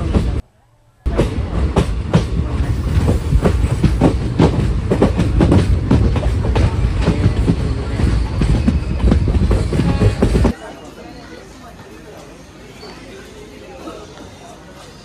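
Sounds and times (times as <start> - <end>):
train coaches rumbling and clattering: 0.0 - 0.4, 1.1 - 15.0.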